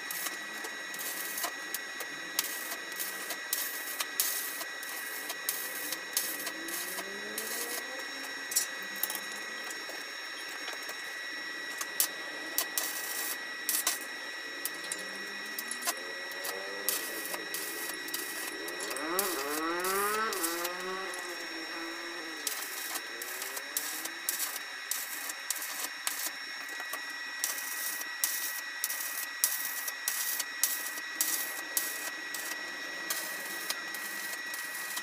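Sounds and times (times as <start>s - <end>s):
arc welding crackle: 0.0s - 35.0s.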